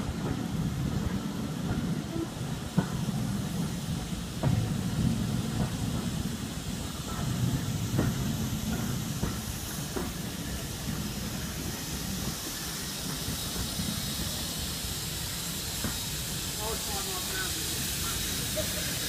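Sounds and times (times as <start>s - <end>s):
steam hissing from locomotive: 0.0s - 19.0s
train coach rumbling on rails: 0.0s - 19.0s.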